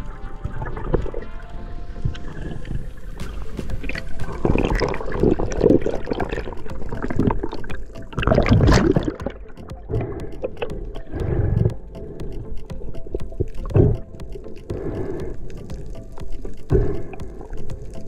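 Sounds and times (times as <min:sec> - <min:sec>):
water rushing and bubbling: 0:00.0 - 0:18.0.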